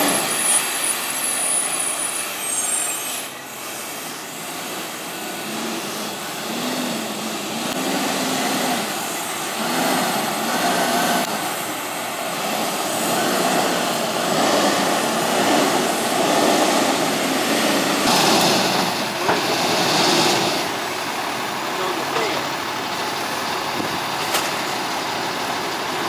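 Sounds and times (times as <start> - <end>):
truck diesel engine passing: 0.0 - 26.0.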